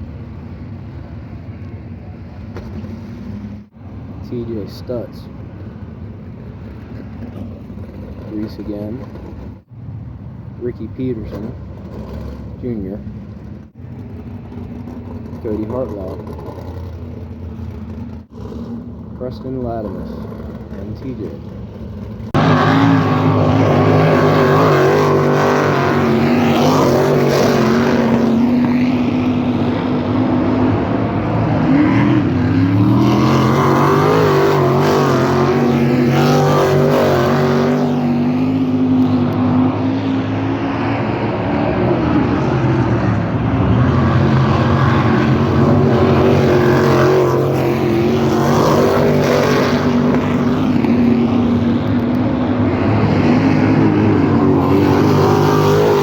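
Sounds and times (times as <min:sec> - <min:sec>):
race car engines droning: 0:00.0 - 0:56.0.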